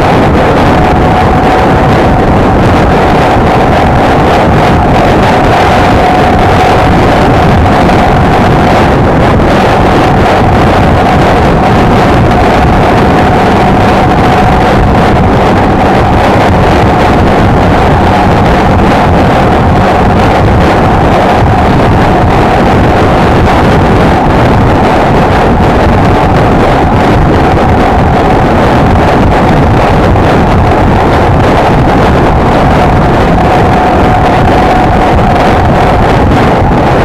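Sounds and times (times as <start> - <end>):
wind noise on microphone: 0.0 - 37.0.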